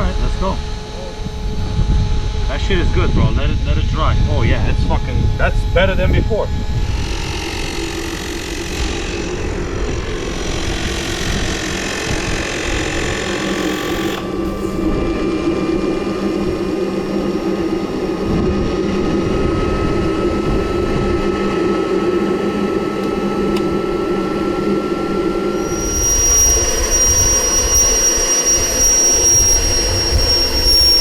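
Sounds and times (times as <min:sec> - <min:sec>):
small turbine engine whine: 0:00.0 - 0:31.0.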